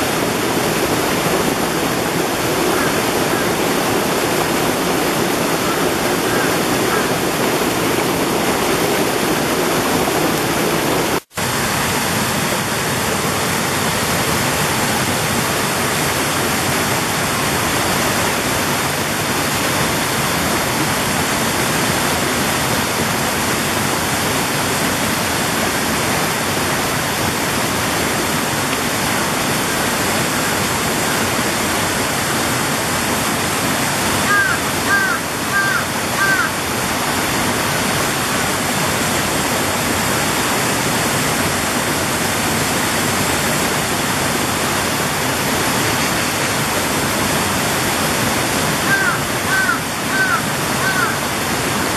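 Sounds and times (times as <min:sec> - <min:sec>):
stream rushing over rocks: 0:00.0 - 0:51.9.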